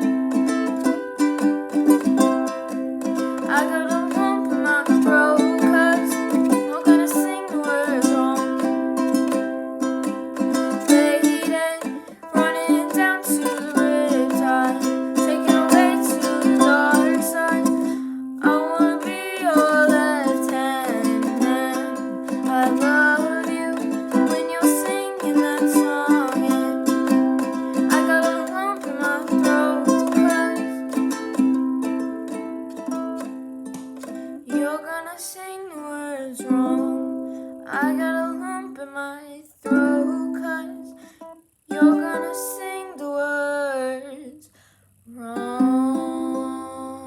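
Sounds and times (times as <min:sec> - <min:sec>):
ukulele strumming chords: 0:00.0 - 0:43.6, 0:45.2 - 0:47.0
person singing: 0:00.0 - 0:47.0.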